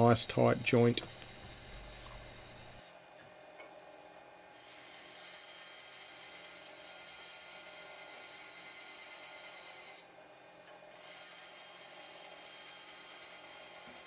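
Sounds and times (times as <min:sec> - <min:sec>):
bandsaw whine cutting wood: 0:00.0 - 0:02.9, 0:04.6 - 0:10.0, 0:10.9 - 0:14.0.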